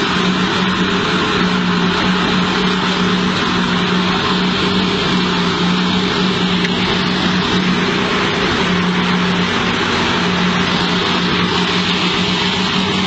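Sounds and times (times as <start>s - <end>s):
heavy diesel machinery drone: 0.0s - 13.0s.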